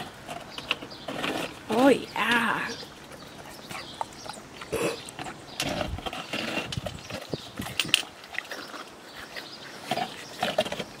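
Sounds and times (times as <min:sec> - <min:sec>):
dogs chewing shaved ice: 0:00.0 - 0:01.7, 0:02.7 - 0:11.0.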